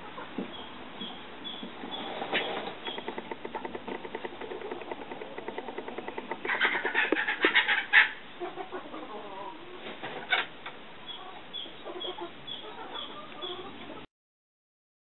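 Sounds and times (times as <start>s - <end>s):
turkeys clucking: 0.0s - 14.0s.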